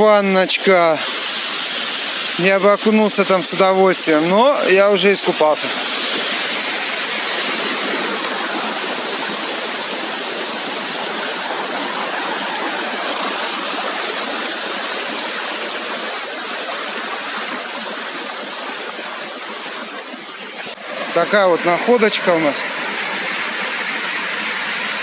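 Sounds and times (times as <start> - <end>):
waterfall pouring into pool: 0.0 - 25.0.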